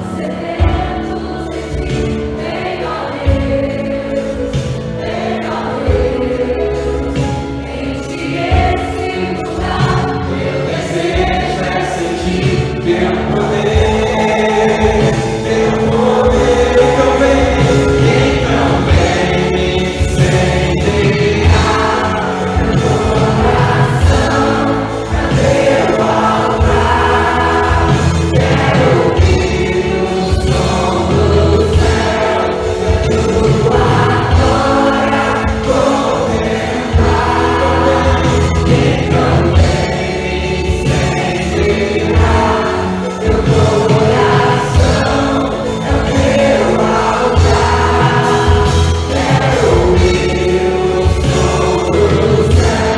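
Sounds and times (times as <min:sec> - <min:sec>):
choir singing gospel: 0:00.0 - 0:52.9
instrumental backing with bass: 0:00.0 - 0:52.9.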